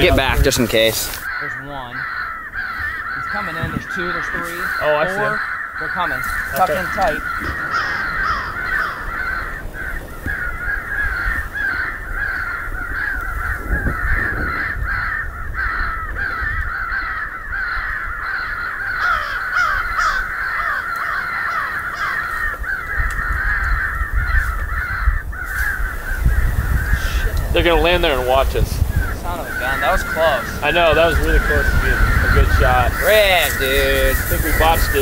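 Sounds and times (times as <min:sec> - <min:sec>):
crows cawing: 0:00.0 - 0:35.0.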